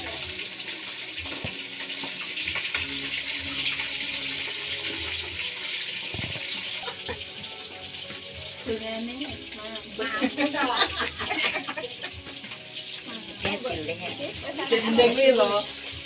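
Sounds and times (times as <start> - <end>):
fire crackling: 0.0 - 16.0
wood fire hissing: 0.0 - 16.0.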